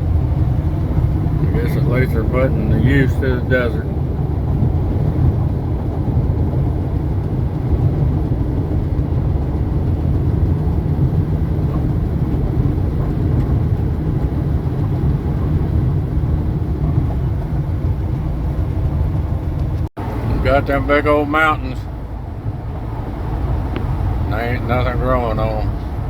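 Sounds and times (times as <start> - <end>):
car driving on highway: 0.0 - 26.0
tyre and engine noise: 0.0 - 26.0.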